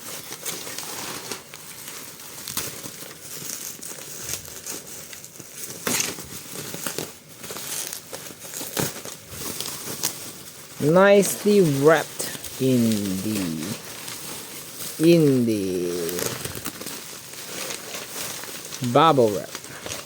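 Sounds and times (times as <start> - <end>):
bubble wrap and plastic crinkling: 0.0 - 20.0.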